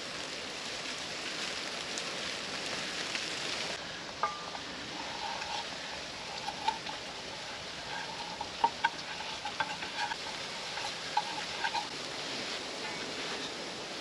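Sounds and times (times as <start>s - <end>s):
food sizzling in a pan: 1.7s - 14.0s.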